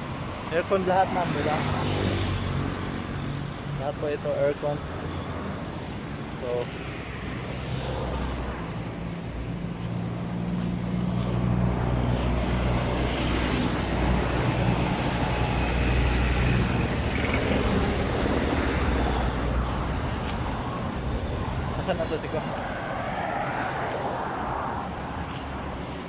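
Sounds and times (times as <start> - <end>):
road noise: 0.0 - 26.0
vehicle engine humming: 2.5 - 25.6.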